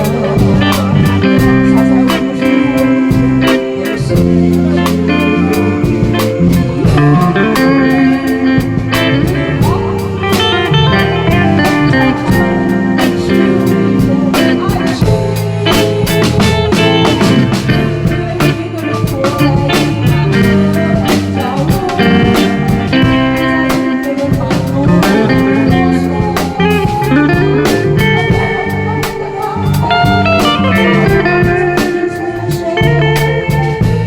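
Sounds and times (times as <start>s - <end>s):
electric guitar melody: 0.0s - 34.0s
live band playing pop ballad: 0.0s - 34.0s
steady drum beat: 0.0s - 34.0s.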